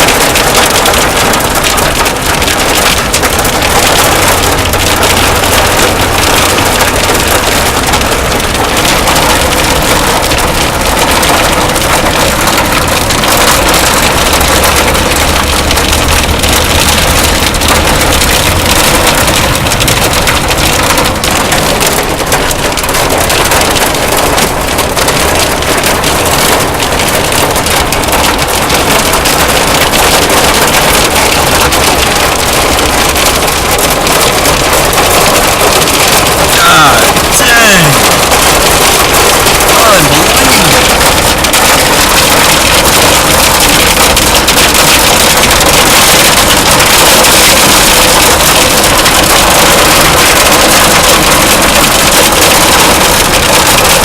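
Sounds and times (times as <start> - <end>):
heavy hail clattering: 0.0 - 54.0.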